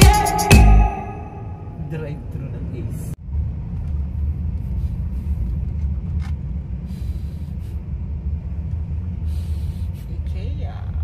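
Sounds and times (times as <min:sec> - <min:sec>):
car engine rumble: 0:00.0 - 0:11.0
tyre road noise: 0:01.3 - 0:11.0.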